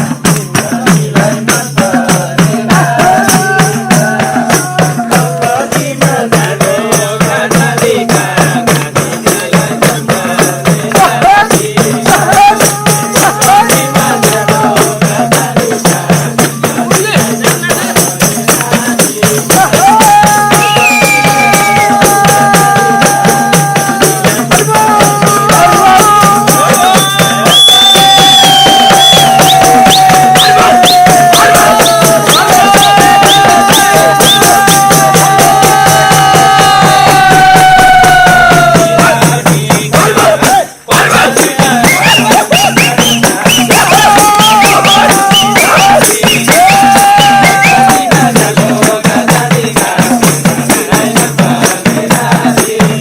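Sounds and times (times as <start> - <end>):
jingling percussion rhythm: 0.0 - 53.0.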